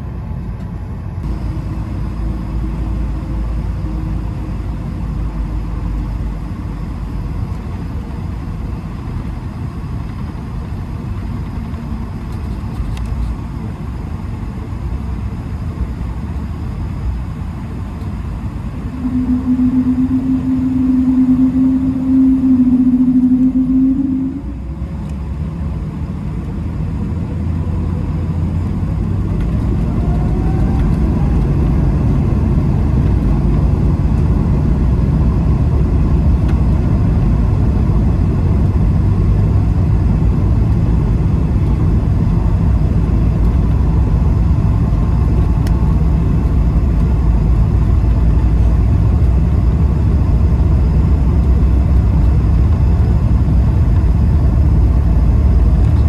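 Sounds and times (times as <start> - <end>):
aircraft cabin rumble: 0.0 - 9.3, 15.8 - 24.8, 26.4 - 56.0.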